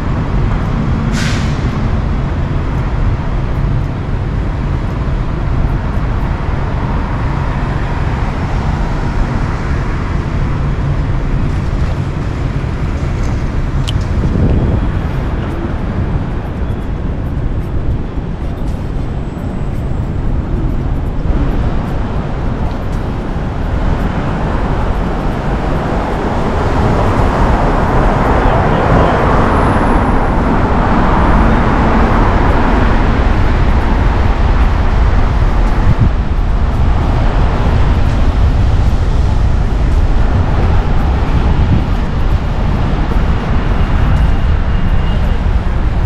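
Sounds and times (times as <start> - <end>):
city traffic rumble: 0.0 - 46.0.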